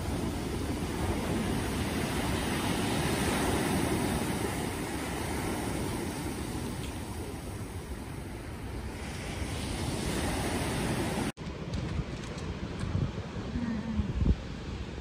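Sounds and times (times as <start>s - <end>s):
surf washing on pebble beach: 0.0s - 13.4s.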